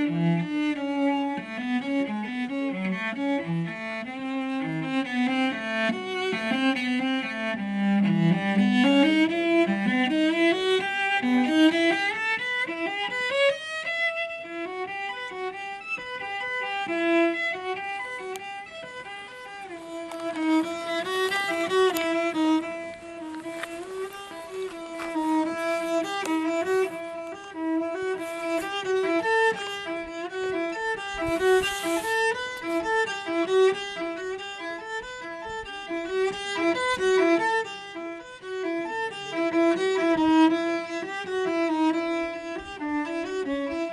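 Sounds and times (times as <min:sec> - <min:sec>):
solo cello melody: 0:00.0 - 0:43.9.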